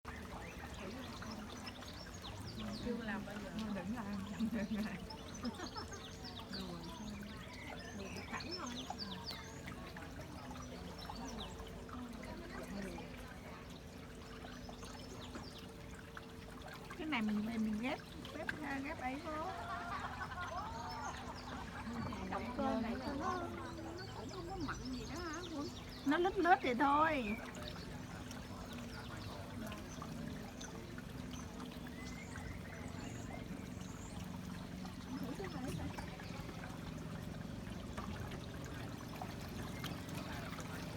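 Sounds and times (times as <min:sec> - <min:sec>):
boat motor humming: 0:00.0 - 0:40.9
water lapping against hull: 0:00.0 - 0:40.9.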